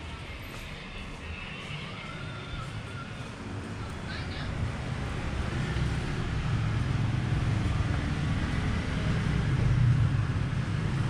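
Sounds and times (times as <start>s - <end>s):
motorbike engines rumbling: 0.0s - 11.0s.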